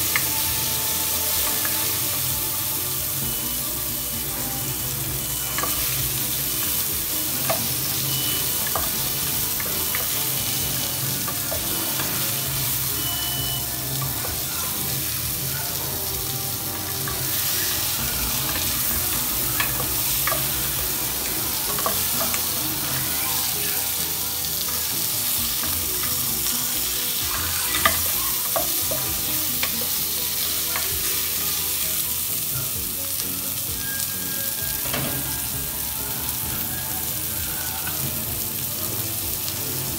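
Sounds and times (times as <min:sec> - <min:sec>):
onion and tomato sizzling in oil: 0:00.0 - 0:39.9.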